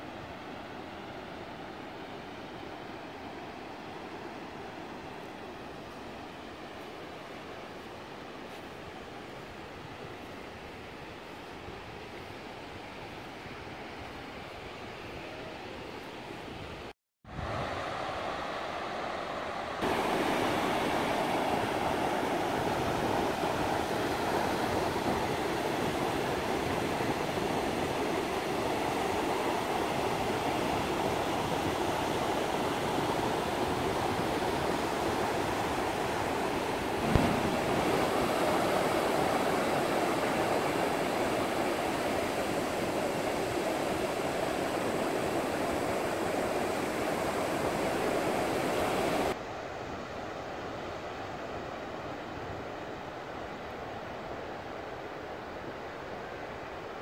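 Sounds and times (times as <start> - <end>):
waves washing onto sandy beach: 0.0 - 57.0.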